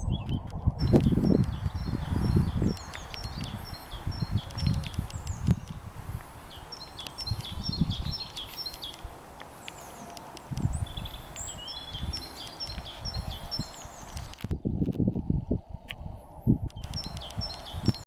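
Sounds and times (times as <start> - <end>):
small birds chirping: 0.0 - 18.0
wind buffeting microphone: 0.0 - 18.0.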